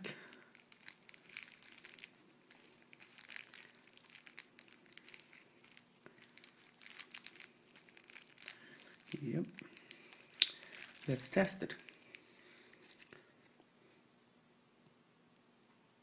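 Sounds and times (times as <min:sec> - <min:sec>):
bubble wrap crinkling: 0:00.0 - 0:13.4.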